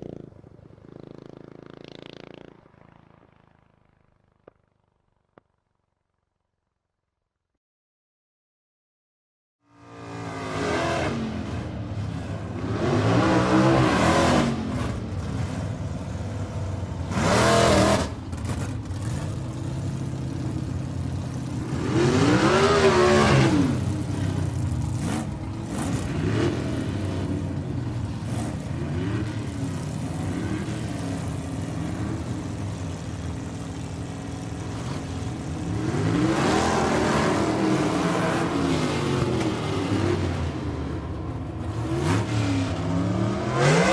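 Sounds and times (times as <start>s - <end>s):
motorcycle engine revving: 0.0s - 4.6s, 9.7s - 43.9s.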